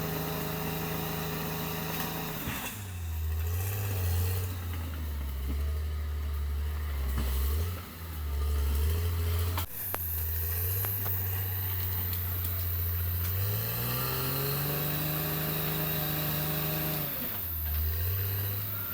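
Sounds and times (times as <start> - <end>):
bulldozer diesel engine running: 0.0 - 18.9.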